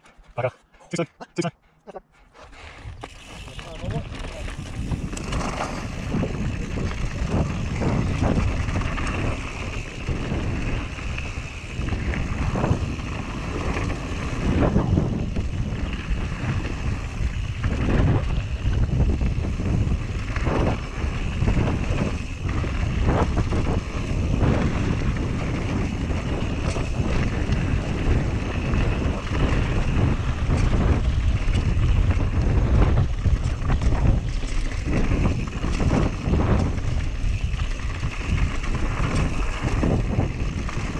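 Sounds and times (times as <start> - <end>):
bike knocking and rattling: 2.6 - 40.9
wind rushing on microphone: 2.7 - 40.9
tyres rolling over dirt and stones: 2.8 - 40.9.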